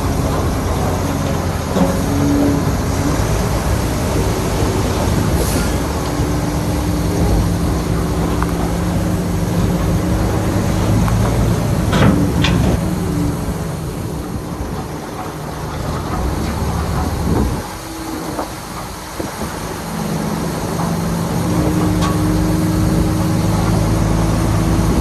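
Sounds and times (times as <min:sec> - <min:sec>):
bulldozer diesel engine running: 0:00.0 - 0:25.0
track clanking: 0:00.0 - 0:25.0.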